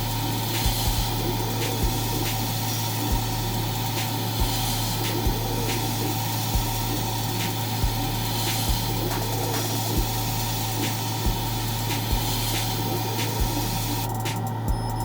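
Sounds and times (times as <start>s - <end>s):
laser cutter hum: 0.0s - 15.0s.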